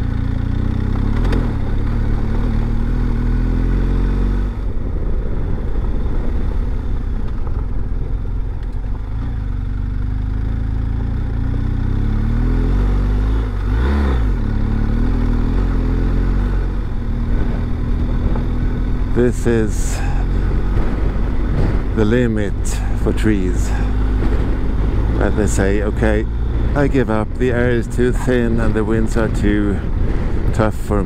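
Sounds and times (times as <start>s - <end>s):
motorcycle engine climbing: 0.0s - 31.0s.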